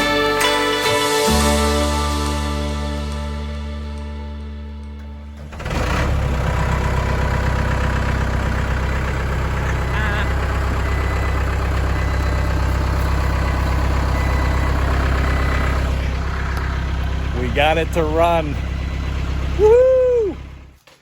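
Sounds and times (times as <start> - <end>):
skid steer engine idling: 0.0 - 21.0.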